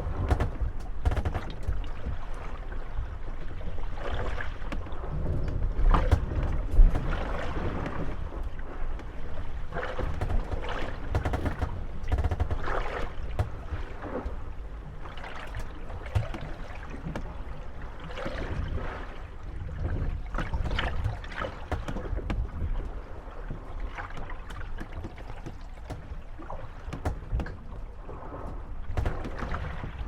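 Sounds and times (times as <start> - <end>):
low wind rumble: 0.0 - 30.0
wooden boats creaking and knocking: 0.0 - 30.0.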